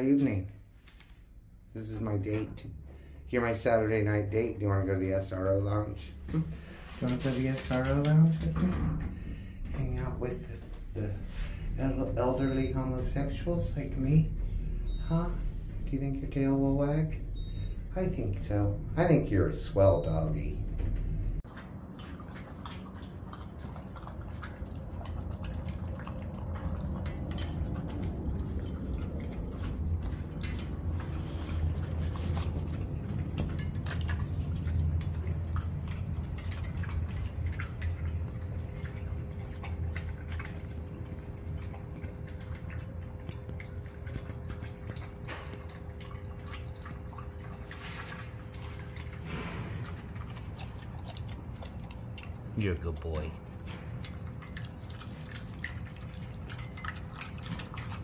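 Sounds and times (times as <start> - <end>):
dog chewing and licking: 9.5 - 58.0.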